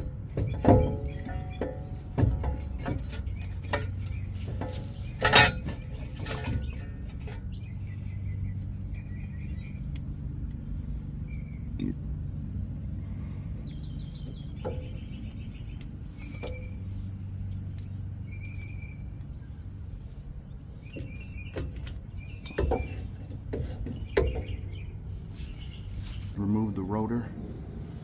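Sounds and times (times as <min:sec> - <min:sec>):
birds chirping: 0:00.0 - 0:27.6
steady low hum: 0:00.0 - 0:28.0.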